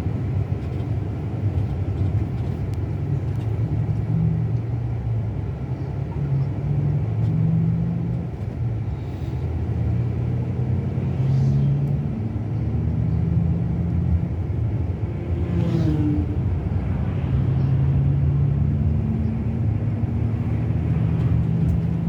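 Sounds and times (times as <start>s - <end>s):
road rumble: 0.0s - 22.0s.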